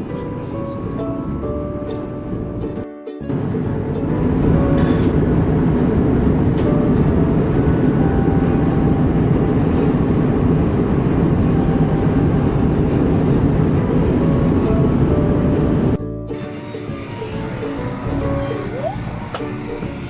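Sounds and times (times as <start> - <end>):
airliner cabin rumble: 0.0 - 20.0
faint music: 0.0 - 20.0.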